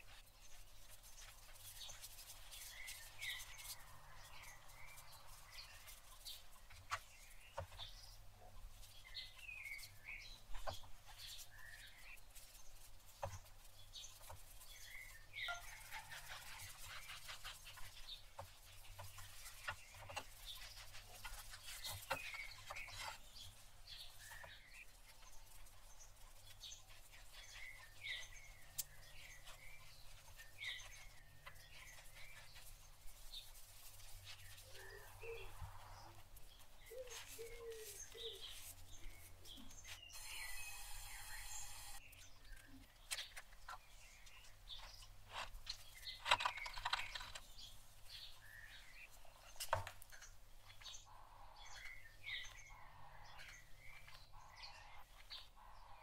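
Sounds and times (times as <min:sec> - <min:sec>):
faint songbird chirping: 0:00.0 - 0:56.0.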